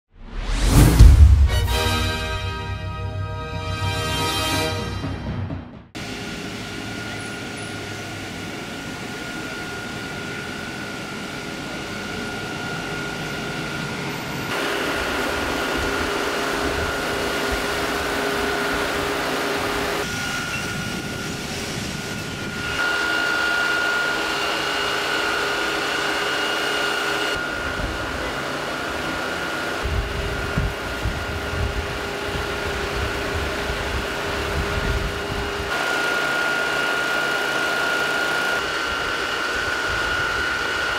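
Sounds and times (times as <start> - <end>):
fire engine running: 0.7 - 40.9
water pump whine: 6.0 - 40.9.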